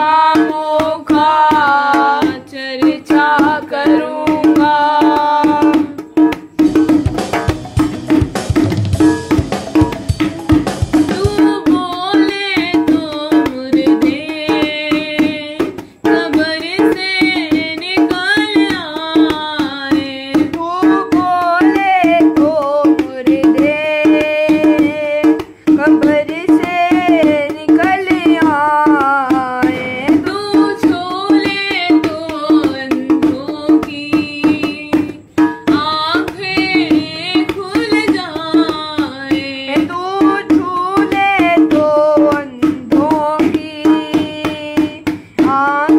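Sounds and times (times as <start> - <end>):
person singing: 0.0 - 6.3, 10.5 - 45.9
tabla strokes: 0.0 - 45.9.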